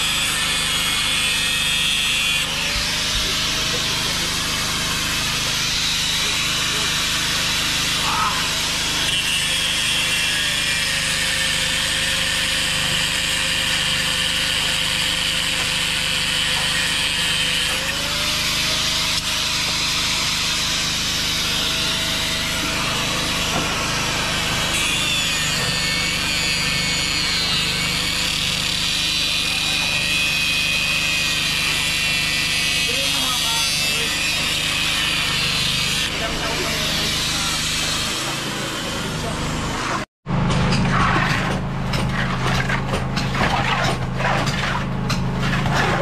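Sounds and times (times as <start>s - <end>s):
angle grinder grinding stone: 0.0s - 46.0s.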